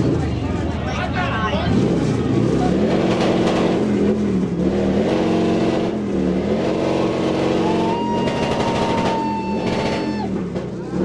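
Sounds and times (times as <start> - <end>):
motorcycle engine revving: 1.6 - 11.0.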